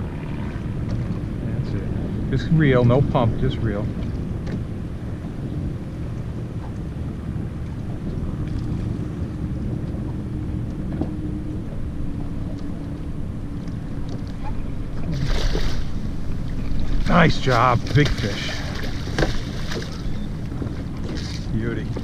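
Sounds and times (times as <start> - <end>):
water moving along boat: 0.0 - 22.0
wind buffeting microphone: 0.0 - 22.0.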